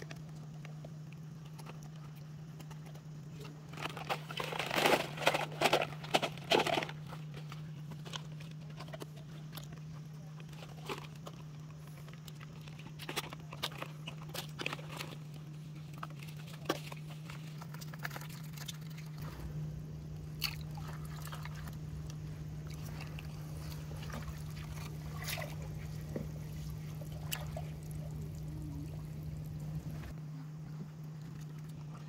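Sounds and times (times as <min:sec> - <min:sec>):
low hum: 0:00.0 - 0:32.0
water trickling and sloshing: 0:00.0 - 0:32.0.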